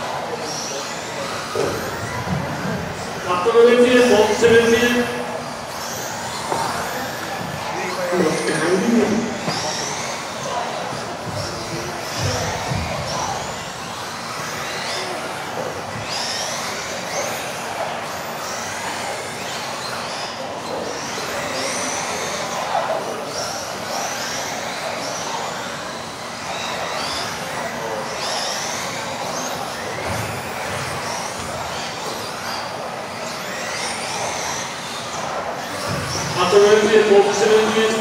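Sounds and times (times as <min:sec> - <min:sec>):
electric rc car motors whining: 0:00.0 - 0:38.0.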